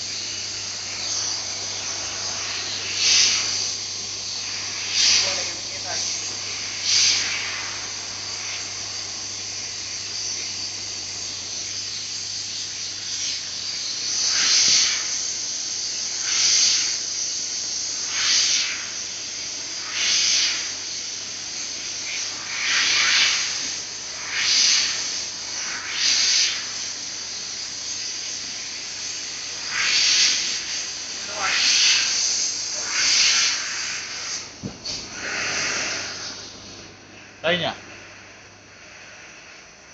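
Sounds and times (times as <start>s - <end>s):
laser cutter gas hissing: 0.0s - 39.9s.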